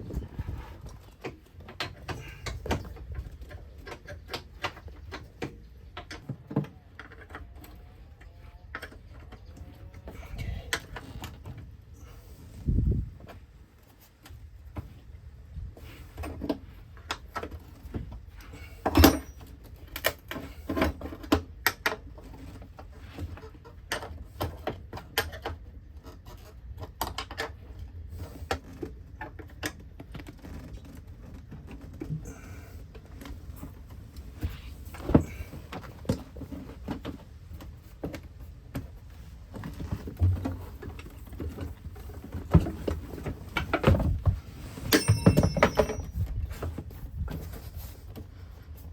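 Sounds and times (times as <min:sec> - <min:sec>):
clicks and clunks of hand work: 0:00.0 - 0:12.2, 0:15.8 - 0:48.9.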